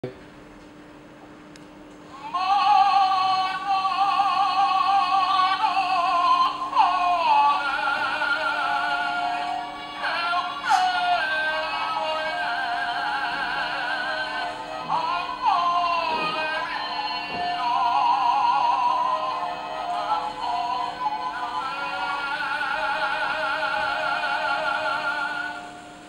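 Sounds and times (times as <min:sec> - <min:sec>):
toy playing sung melody: 0:02.2 - 0:25.8.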